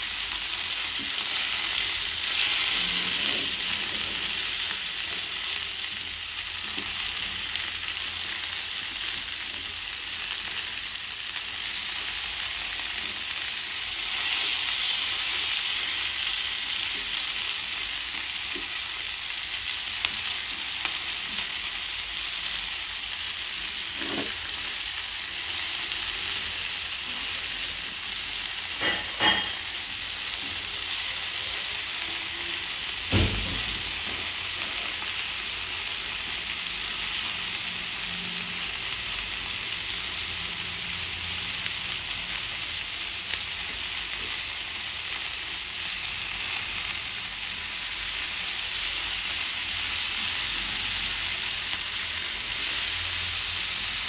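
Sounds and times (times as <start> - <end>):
vegetables sizzling in a frying pan: 0.0 - 54.0.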